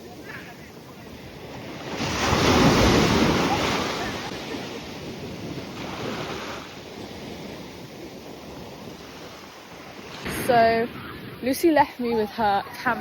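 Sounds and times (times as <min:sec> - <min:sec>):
sea waves breaking: 0:00.0 - 0:13.0
wind buffeting microphone: 0:00.0 - 0:13.0.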